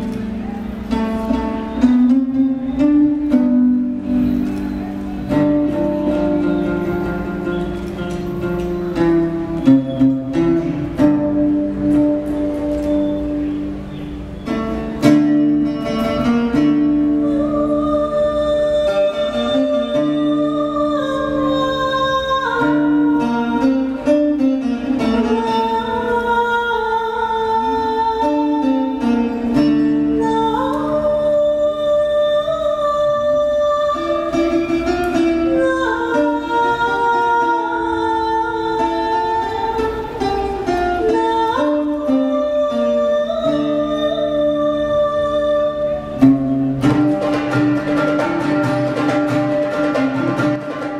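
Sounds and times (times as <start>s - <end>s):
plucked string instruments: 0.0s - 50.9s.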